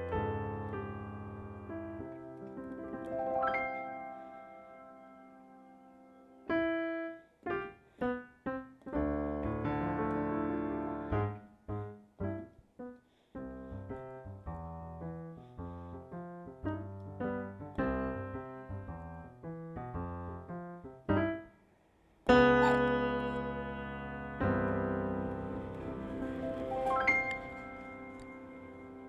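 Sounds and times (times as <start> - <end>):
piano melody and chords: 0.0 - 21.6, 22.2 - 29.0.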